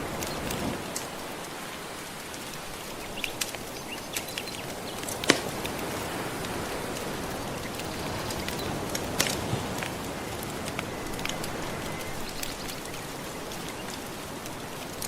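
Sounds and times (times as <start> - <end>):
gentle ocean waves: 0.0 - 15.0
wood fire crackling and popping: 0.0 - 15.0.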